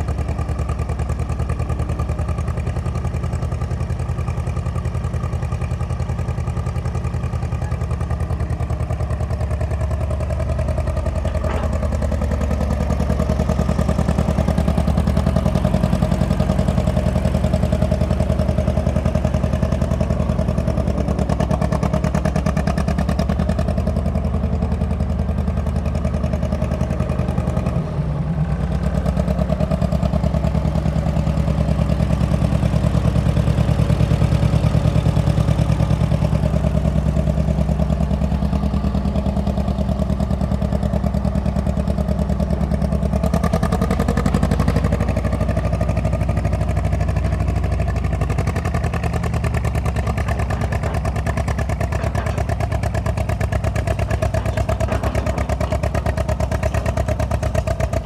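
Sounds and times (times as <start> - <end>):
dozer engine running: 0.0 - 58.0.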